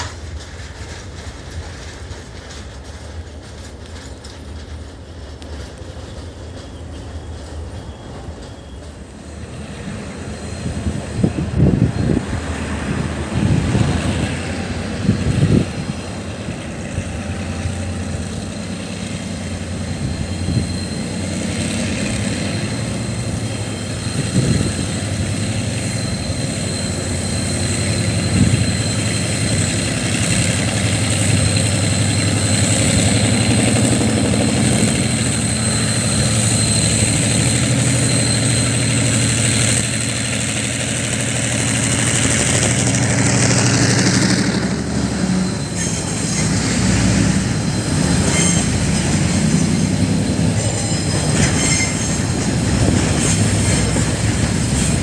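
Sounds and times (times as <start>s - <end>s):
heavy engine humming: 0.0s - 55.0s.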